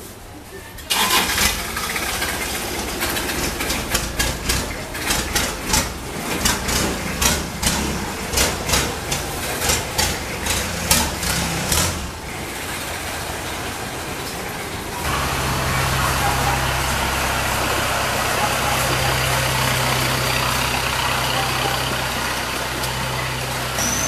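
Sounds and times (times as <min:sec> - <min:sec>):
engine idling hum: 0:00.9 - 0:24.0.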